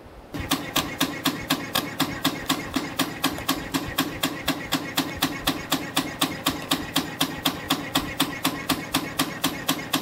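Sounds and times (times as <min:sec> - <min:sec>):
machine running noise: 0:00.3 - 0:10.0
machine clacking: 0:00.4 - 0:10.0.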